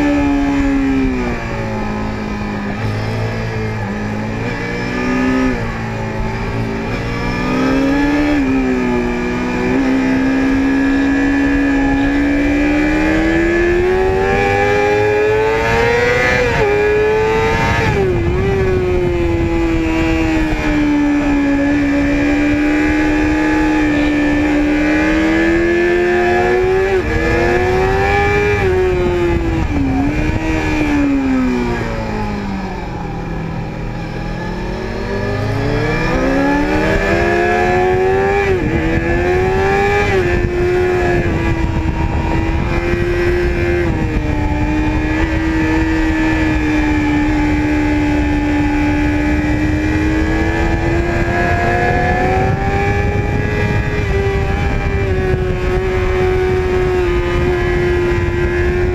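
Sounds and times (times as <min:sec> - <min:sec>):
motorcycle engine accelerating: 0:00.0 - 0:58.9
wind rush: 0:00.0 - 0:58.9.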